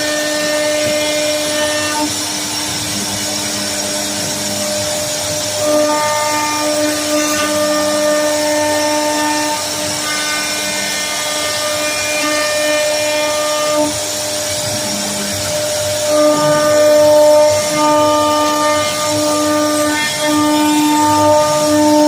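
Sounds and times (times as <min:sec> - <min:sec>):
router spindle whine: 0:00.0 - 0:22.0
wood cutting hiss: 0:00.0 - 0:22.0.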